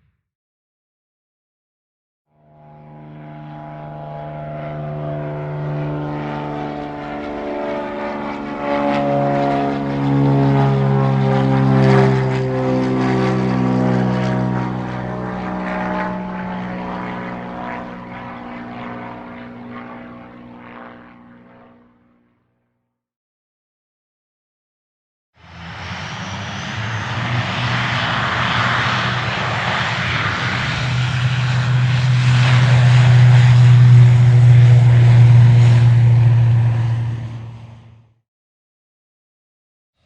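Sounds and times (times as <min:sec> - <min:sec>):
propeller airplane flying past: 0:02.3 - 0:22.4, 0:25.4 - 0:38.2.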